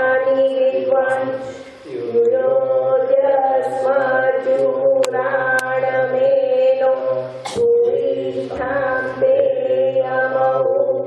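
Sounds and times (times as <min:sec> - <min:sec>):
group chanting held notes: 0:00.0 - 0:11.0.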